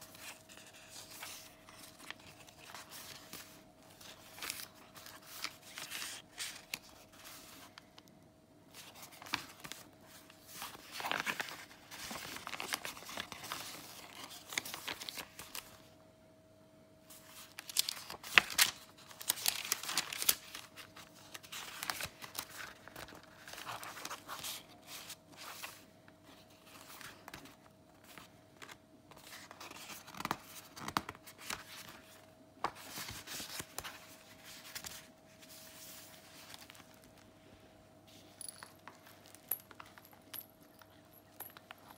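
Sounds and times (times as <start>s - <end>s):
paper pages rustling and flicking: 0.0s - 7.8s, 8.7s - 15.8s, 17.2s - 37.2s.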